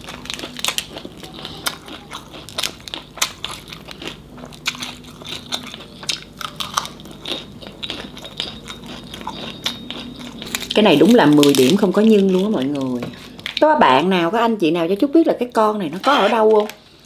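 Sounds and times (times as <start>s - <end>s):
crunchy chewing: 0.0s - 13.7s.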